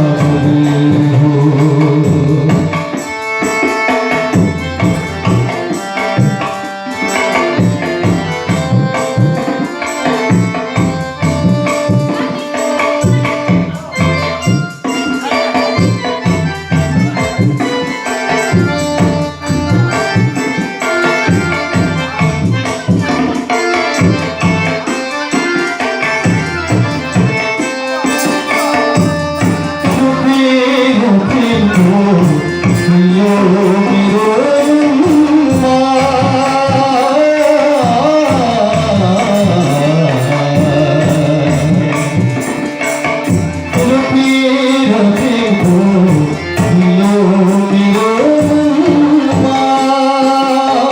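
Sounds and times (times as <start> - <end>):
person singing: 0.0 - 50.9
tabla-led percussion and instruments: 0.0 - 50.9.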